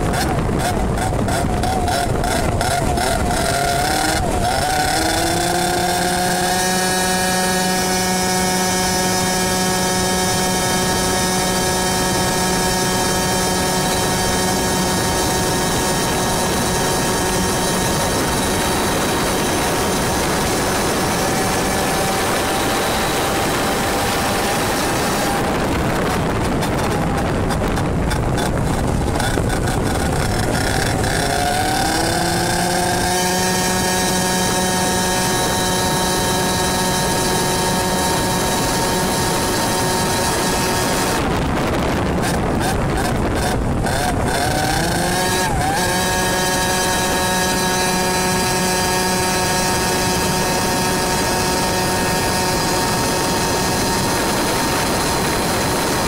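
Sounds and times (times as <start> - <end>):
kart engine at high revs: 0.0 - 56.0.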